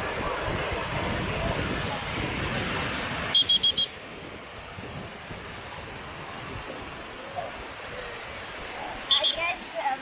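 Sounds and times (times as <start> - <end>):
sea surf breaking on beach: 0.0 - 10.0
wind rumbling on microphone: 0.0 - 10.0.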